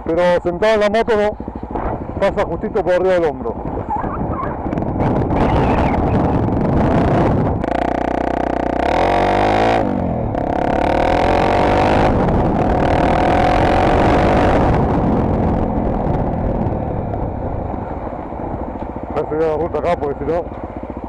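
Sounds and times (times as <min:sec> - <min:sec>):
motorcycle engine running: 0:00.0 - 0:21.0
wind noise: 0:00.2 - 0:20.5.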